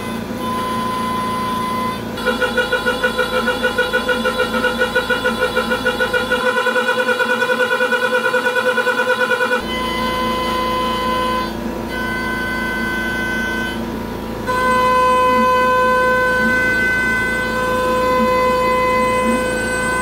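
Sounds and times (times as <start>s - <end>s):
milling machine whine: 0.0s - 20.0s.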